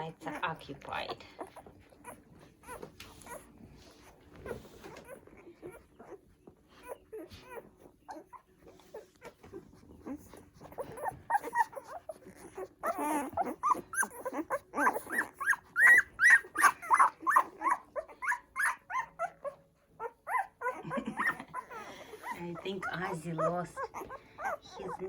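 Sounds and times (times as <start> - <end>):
puppies squeaking and whining: 0.0 - 25.0.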